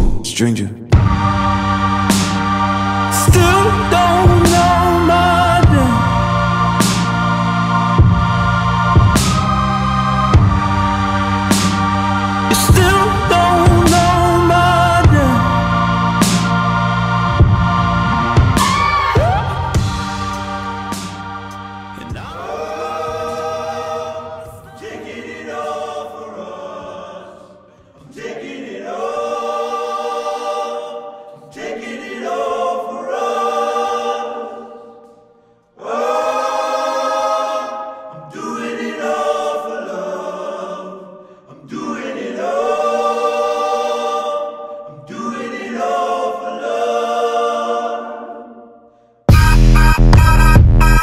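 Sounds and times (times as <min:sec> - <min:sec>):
wordless choir singing held chords: 0:00.9 - 0:51.0.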